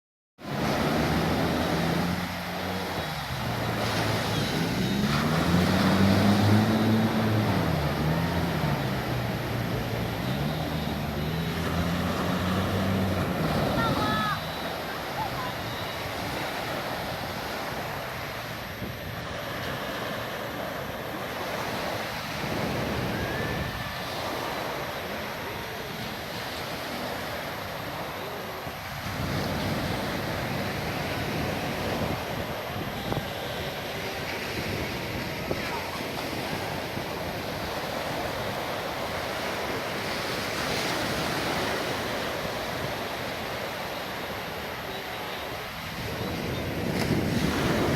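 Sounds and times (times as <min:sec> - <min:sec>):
sea waves on sandy beach: 0:00.4 - 0:47.9.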